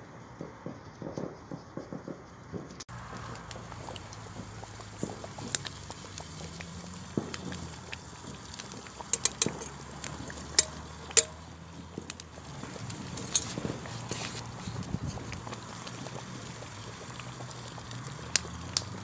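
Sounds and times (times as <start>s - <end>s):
sharp clicks and pops: 2.9s - 19.0s.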